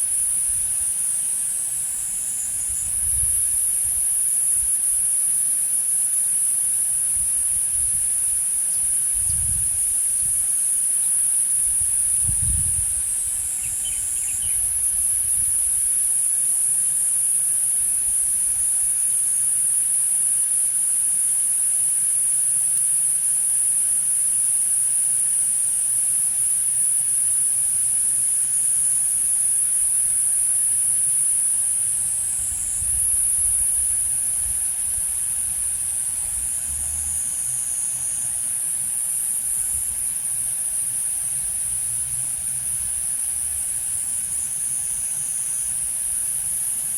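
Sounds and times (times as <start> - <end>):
cicadas droning: 0.0 - 46.9.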